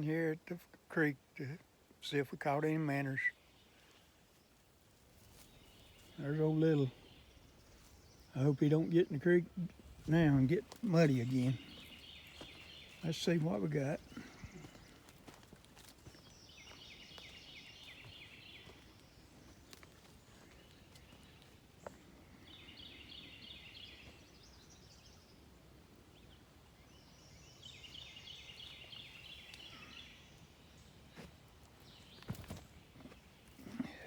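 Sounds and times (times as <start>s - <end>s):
faint outdoor background noise: 0.0s - 34.0s.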